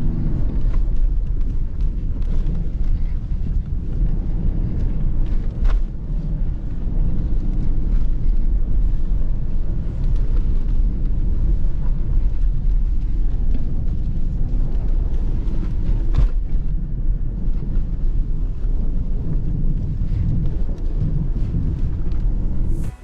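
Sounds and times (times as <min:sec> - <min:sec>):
low rumble of engine and tyres: 0:00.0 - 0:23.0.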